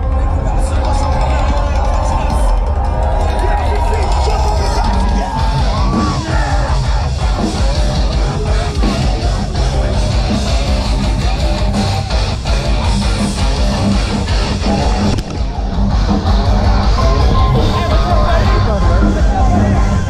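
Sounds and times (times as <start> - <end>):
distorted electric guitars: 0.0 - 20.0
live heavy metal band: 0.0 - 20.0
yelled vocals: 0.0 - 20.0.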